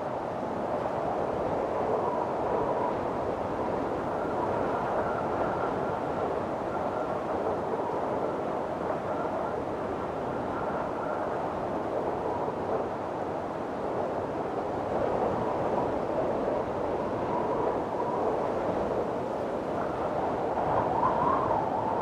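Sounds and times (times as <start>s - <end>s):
faint whistling howl of wind: 0.0s - 22.0s.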